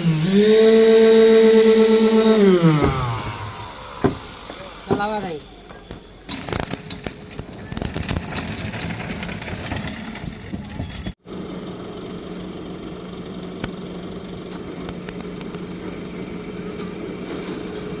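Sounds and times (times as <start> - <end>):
engine humming: 0.0 - 18.0
engine clatter: 2.7 - 18.0.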